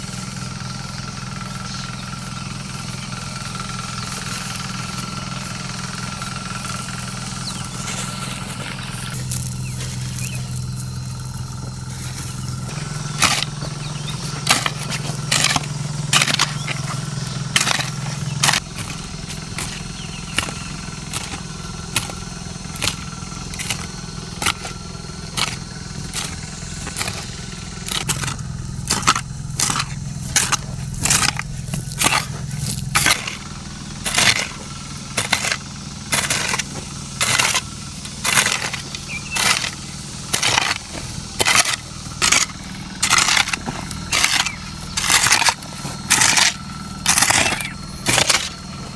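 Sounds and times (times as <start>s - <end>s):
sharp crunching snaps: 0.0s - 48.9s
small engine running: 0.0s - 48.9s.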